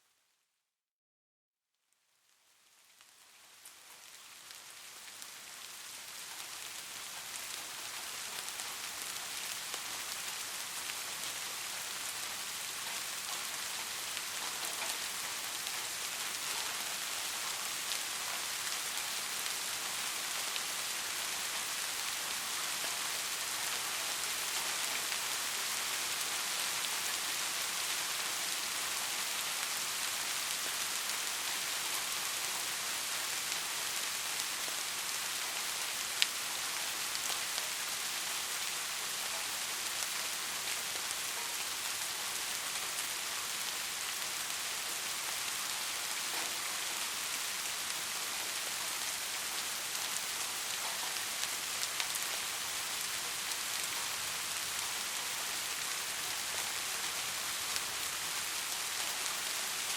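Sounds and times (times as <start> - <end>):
steady rain: 2.0 - 59.9.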